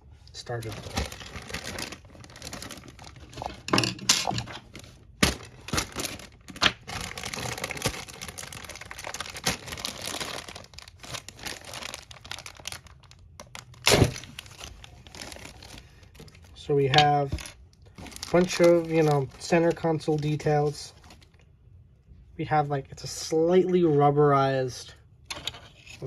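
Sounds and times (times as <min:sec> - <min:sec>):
plastic packaging crinkling: 0:00.4 - 0:21.4.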